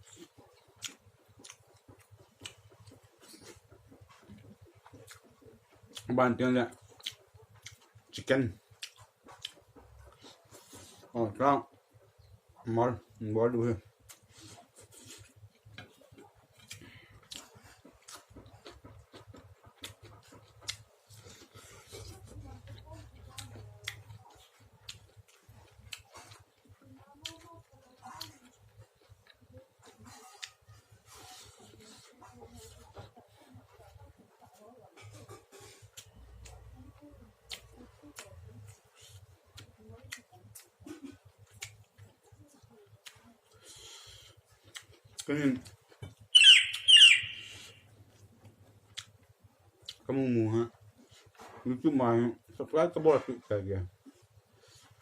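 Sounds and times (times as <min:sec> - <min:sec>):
person chewing: 0:00.0 - 0:12.4, 0:13.9 - 0:33.8, 0:35.1 - 0:50.1, 0:54.0 - 0:55.0.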